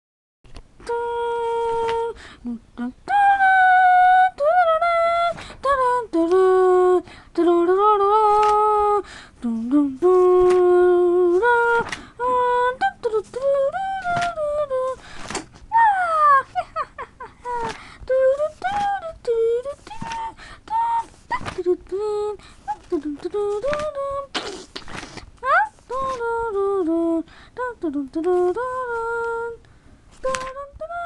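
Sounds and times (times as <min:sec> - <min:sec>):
person singing wordless tune: 0:00.8 - 0:31.0.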